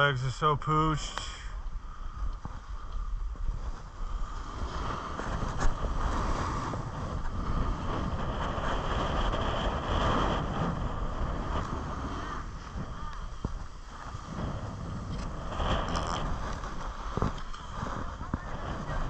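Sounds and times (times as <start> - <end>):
wind buffeting microphone: 0.0 - 19.0
skis scraping over snow: 3.3 - 19.0.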